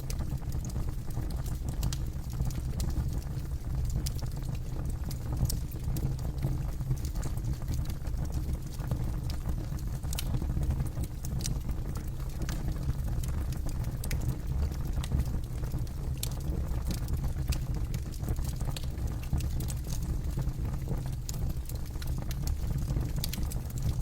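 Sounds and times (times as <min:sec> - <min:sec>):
low fire rumble: 0:00.0 - 0:24.0.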